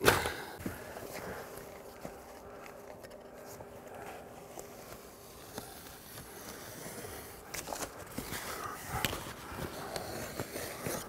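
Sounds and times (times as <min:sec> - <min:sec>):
handling membrane strip: 0:00.0 - 0:11.0
low steady hum: 0:00.0 - 0:11.0.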